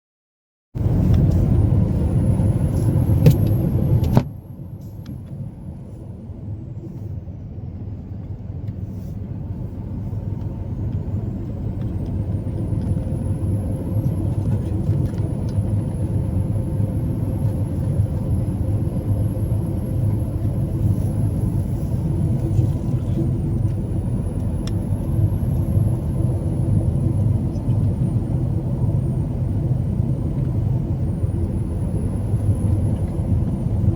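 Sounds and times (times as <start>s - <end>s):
truck engine and road rumble: 0.8s - 33.9s.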